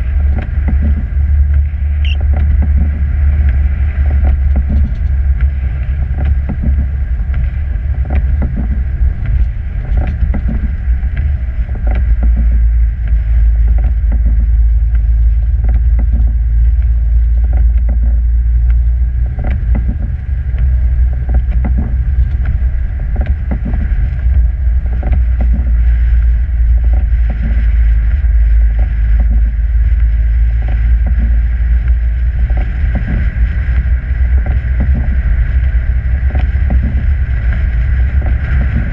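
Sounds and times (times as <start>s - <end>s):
vehicle driving rumble: 0.0s - 38.9s.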